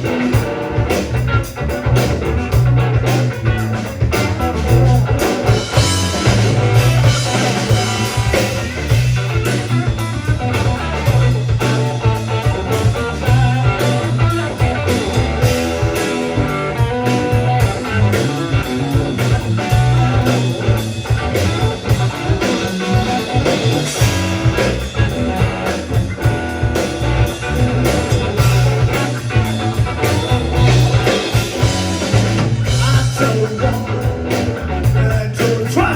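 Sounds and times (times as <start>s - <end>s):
rock blues band music: 0.0s - 35.9s.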